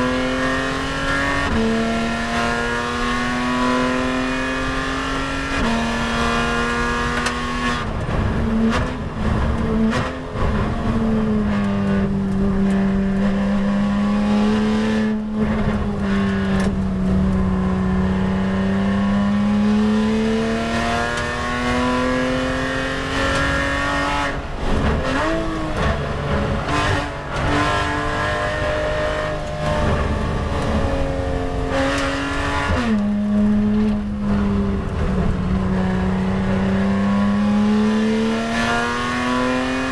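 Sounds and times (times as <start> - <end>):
race car engine running hard: 0.0 - 39.9
road and tyre rumble: 0.0 - 39.9.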